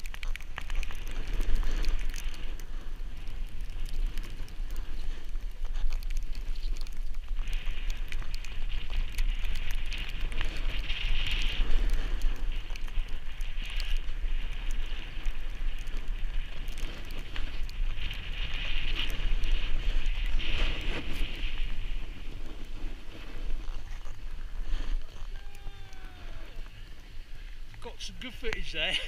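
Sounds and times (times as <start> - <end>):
fine crackling: 0.0 - 29.0
sliding over packed snow: 0.0 - 29.0
wind buffeting microphone: 0.0 - 29.0.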